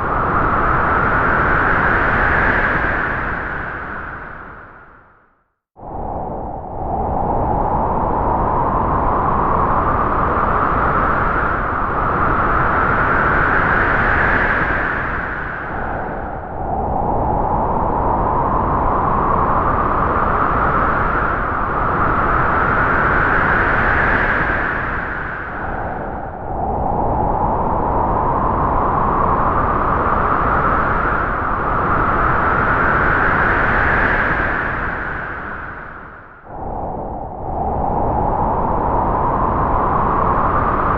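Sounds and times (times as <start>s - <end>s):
strong howling wind: 0.0s - 40.9s.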